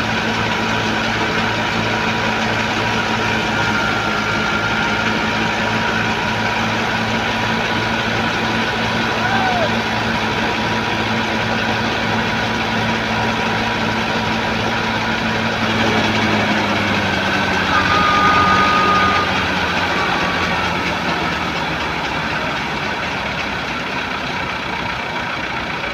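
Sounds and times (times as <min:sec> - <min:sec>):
thresher engine hum: 0:00.0 - 0:25.9.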